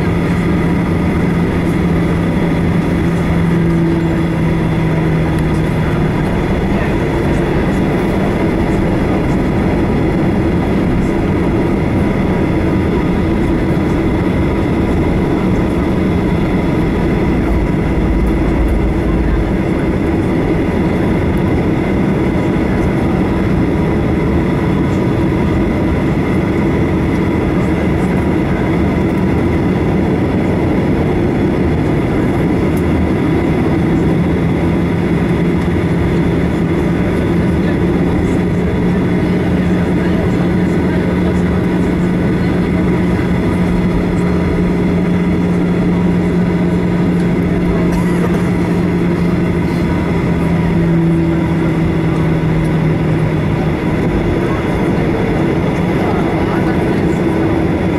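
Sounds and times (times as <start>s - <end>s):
aircraft cabin rumble: 0.0s - 57.9s
steady engine tones: 0.0s - 57.9s.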